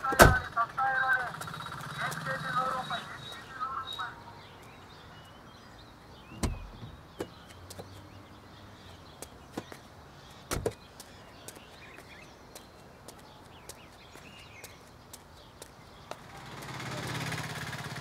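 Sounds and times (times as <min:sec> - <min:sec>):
street ambience: 0:00.0 - 0:18.0.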